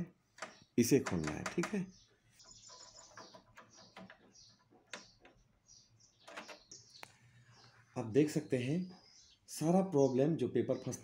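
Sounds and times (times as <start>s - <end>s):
faint bird chirps: 0.4s - 11.0s.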